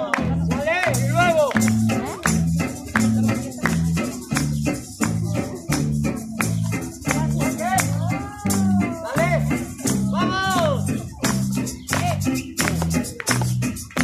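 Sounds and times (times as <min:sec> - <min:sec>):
rattling shaker beat: 0:00.0 - 0:14.0
upbeat music: 0:00.0 - 0:14.0.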